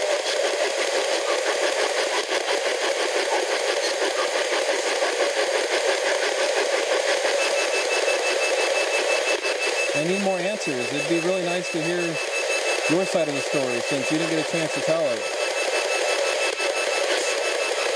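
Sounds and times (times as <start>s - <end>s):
rapid chop of radio static: 0.0s - 17.9s.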